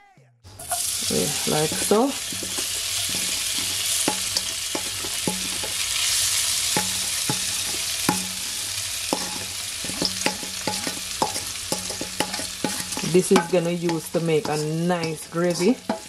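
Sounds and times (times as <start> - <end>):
vegetables sizzling in hot oil: 0.5 - 16.0.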